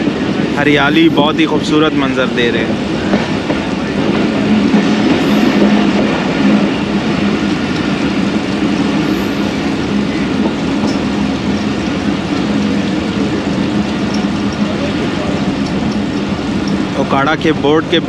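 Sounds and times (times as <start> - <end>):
train wheels on rails: 0.0 - 18.0.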